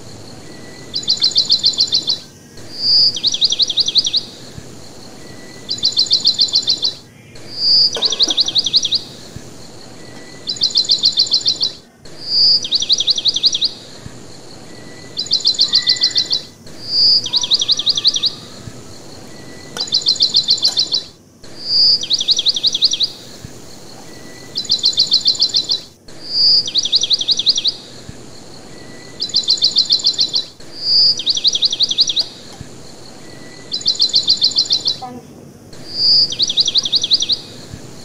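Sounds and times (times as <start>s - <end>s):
bird chirping trill: 0.0s - 38.0s.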